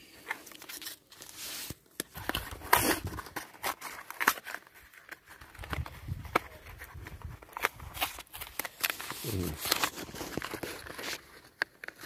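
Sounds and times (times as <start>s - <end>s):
plastic and cardboard packaging crackling: 0.0s - 12.0s.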